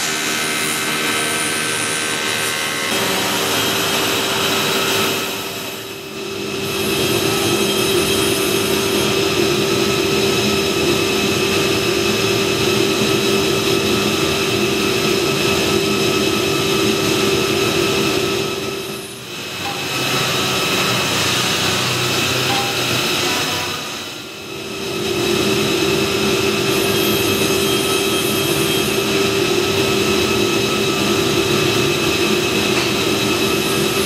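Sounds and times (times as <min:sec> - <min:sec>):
woodworking machinery whine: 0:00.0 - 0:34.0.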